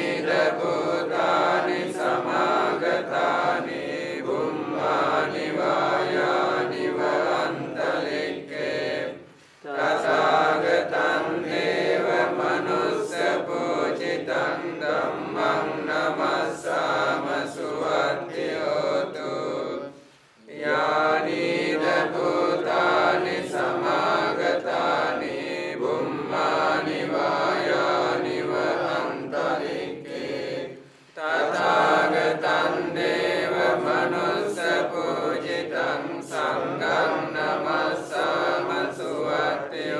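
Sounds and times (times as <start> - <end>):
monks chanting together: 0.0 - 39.9.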